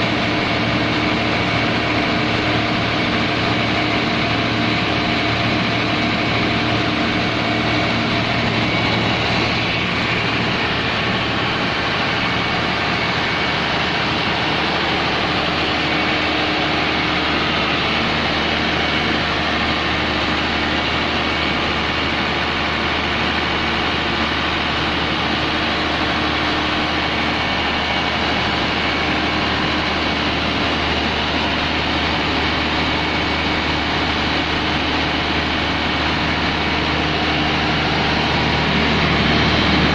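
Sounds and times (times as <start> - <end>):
diesel generator engine running: 0.0 - 39.9.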